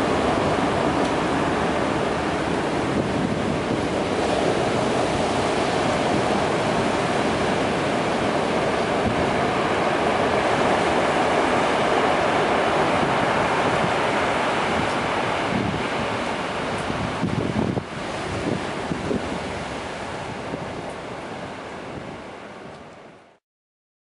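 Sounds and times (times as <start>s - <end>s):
wind roaring across microphone: 0.0s - 23.4s.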